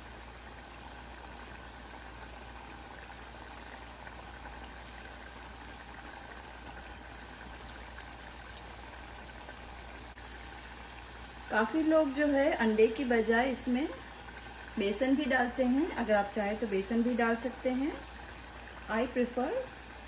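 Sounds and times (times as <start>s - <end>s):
gravy bubbling in a saucepan: 0.0s - 20.0s.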